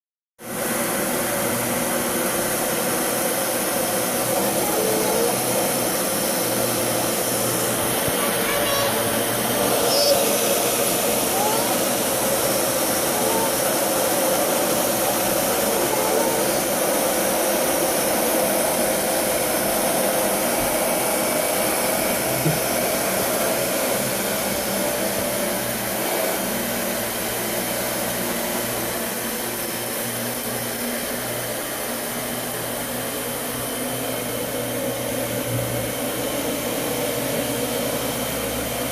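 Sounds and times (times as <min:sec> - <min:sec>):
vacuum cleaner motor running: 0:00.4 - 0:38.9.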